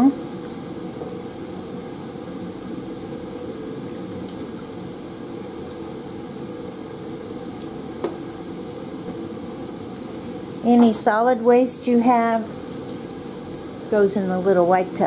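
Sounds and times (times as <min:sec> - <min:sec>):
exhaust fan noise: 0:00.0 - 0:15.0.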